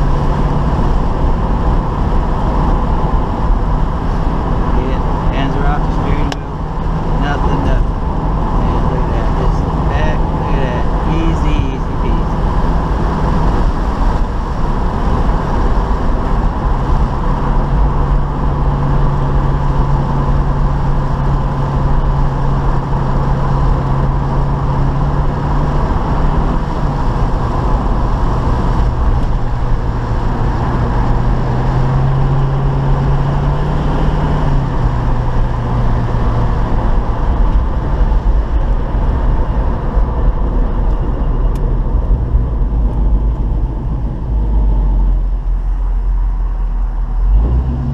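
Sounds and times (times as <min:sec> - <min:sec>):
car engine drone: 0:00.0 - 0:47.9
road noise: 0:00.0 - 0:47.9.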